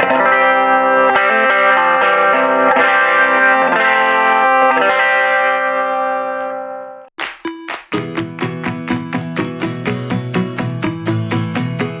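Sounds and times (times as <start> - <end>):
electric guitar strumming chords: 0.0 - 12.0.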